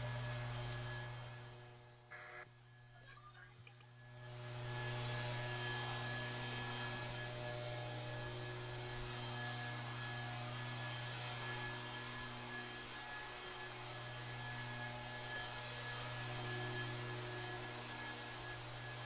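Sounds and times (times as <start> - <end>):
faint steady tones: 0.0 - 19.0
steady low hum: 0.0 - 19.0.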